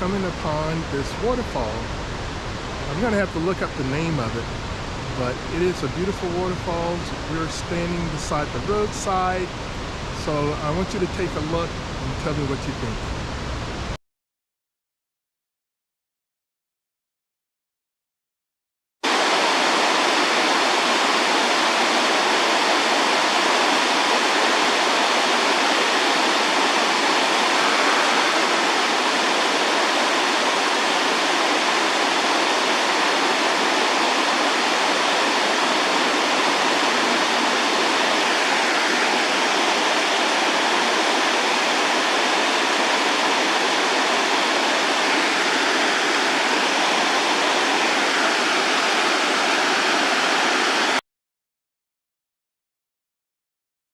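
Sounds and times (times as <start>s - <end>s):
waterfall rushing: 0.0s - 12.9s, 19.1s - 51.0s.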